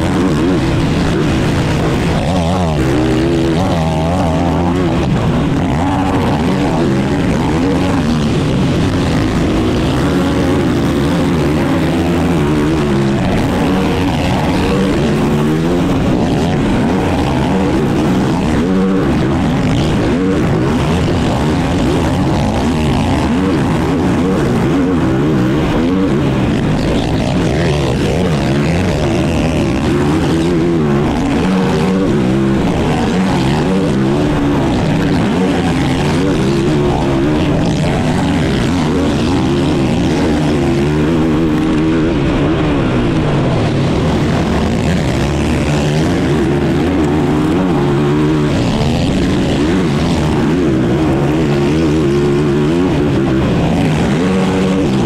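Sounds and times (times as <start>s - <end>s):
racing atv engine revving: 0.0s - 55.0s.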